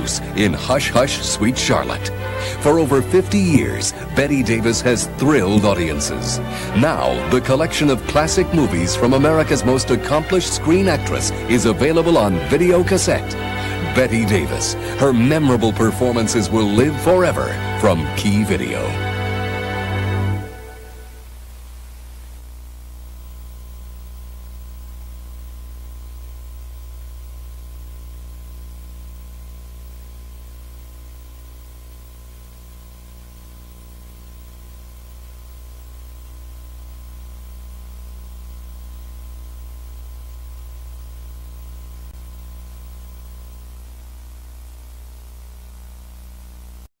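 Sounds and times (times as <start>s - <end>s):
low electrical hum: 0.0s - 46.9s
tape hiss: 0.0s - 46.9s.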